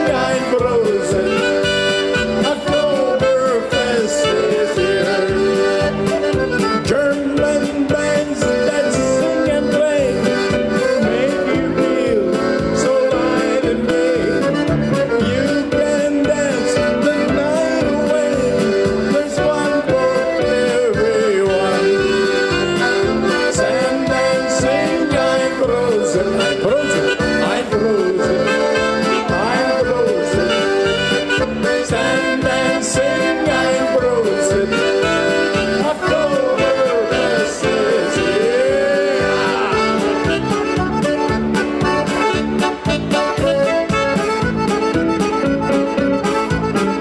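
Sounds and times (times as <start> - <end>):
keyboard backing: 0.0 - 47.0
polka on accordion: 0.0 - 47.0
steady beat: 0.0 - 47.0.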